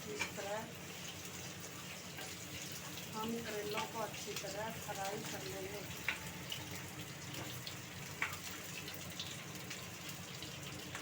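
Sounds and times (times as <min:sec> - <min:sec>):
oil popping and crackling: 0:00.0 - 0:11.0
vegetables sizzling in hot oil: 0:00.0 - 0:11.0.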